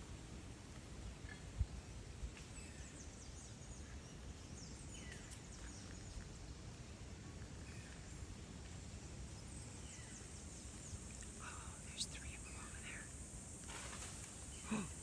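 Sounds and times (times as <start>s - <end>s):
low rumble of wind: 0.0s - 15.0s.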